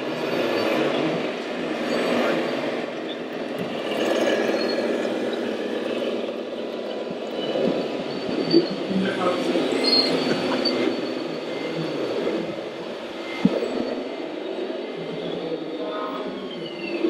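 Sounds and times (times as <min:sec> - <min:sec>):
remote-controlled trucks running: 0:00.0 - 0:15.8
high whines of drives: 0:00.0 - 0:17.0.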